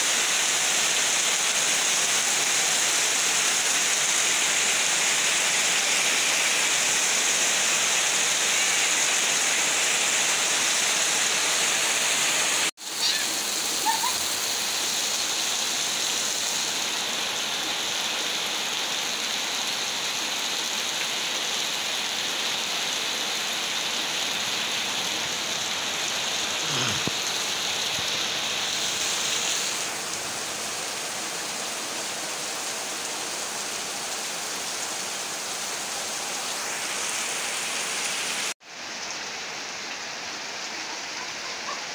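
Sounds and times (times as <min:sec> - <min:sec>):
heavy rain on ground: 0:00.0 - 0:41.9.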